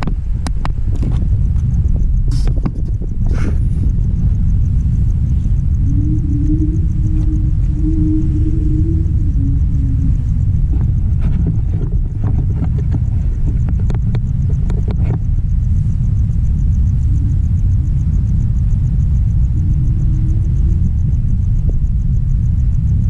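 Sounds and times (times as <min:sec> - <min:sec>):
loud low rumble: 0:00.0 - 0:23.0
faint wavering tone: 0:01.4 - 0:23.0.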